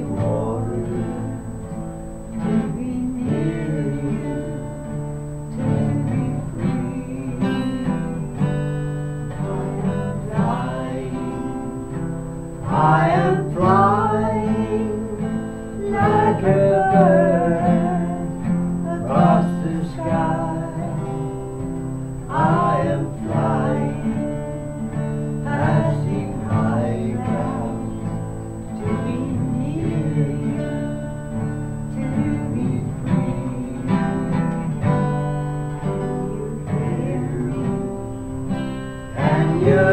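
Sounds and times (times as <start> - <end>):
acoustic guitar strumming: 0.0 - 39.9
people singing: 0.0 - 39.9.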